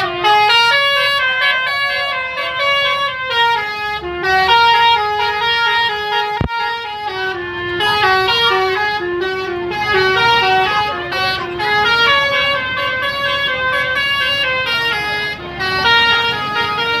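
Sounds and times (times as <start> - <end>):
bus musical horn melody: 0.0 - 17.0.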